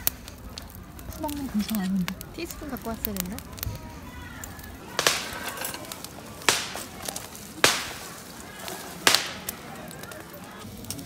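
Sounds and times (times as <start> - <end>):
fire crackling: 0.0 - 11.0
firewood popping: 0.0 - 11.0.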